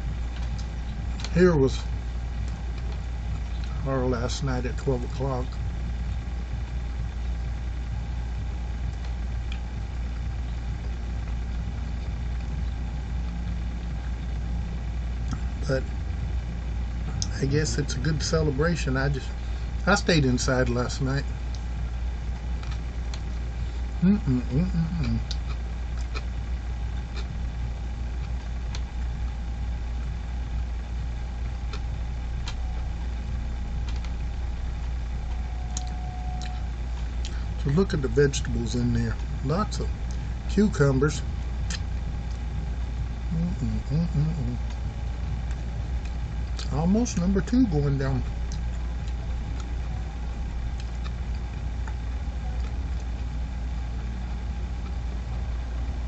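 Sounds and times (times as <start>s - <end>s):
low mechanical hum: 0.0s - 56.0s
low rumble: 0.0s - 56.0s.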